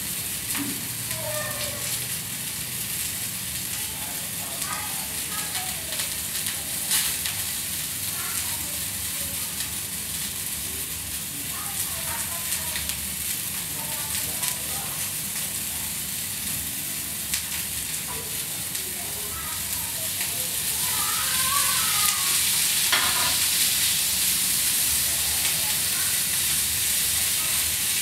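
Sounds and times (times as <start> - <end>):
meat sizzling in a pan: 0.0 - 28.0.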